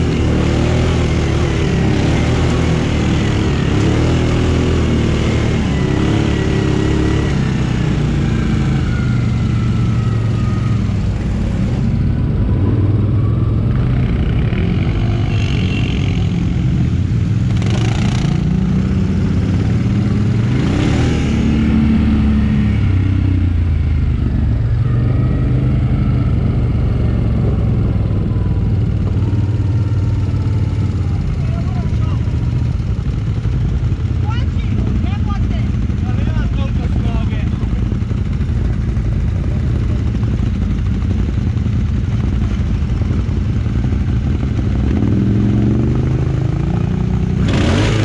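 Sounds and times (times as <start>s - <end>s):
quad bike engine running: 0.0s - 48.0s.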